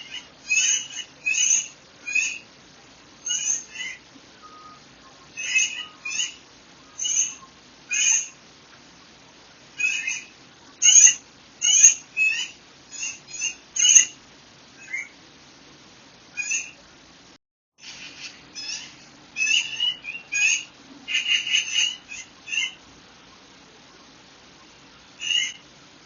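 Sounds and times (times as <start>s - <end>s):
songbirds chirping and singing: 0.0s - 2.6s, 3.2s - 8.4s, 9.8s - 14.2s, 14.8s - 15.2s, 16.4s - 16.8s, 17.8s - 25.7s
faint steady background noise: 0.0s - 26.0s.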